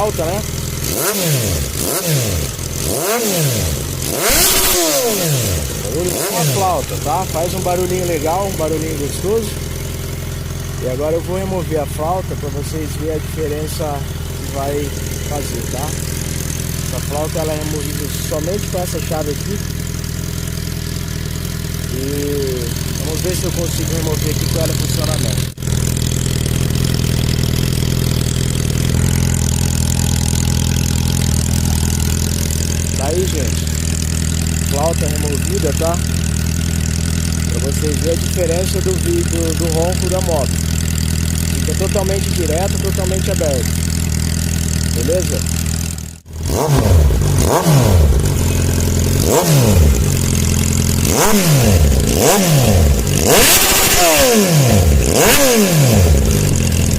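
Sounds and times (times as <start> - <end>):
motorcycle engine idling: 0.0 - 56.9.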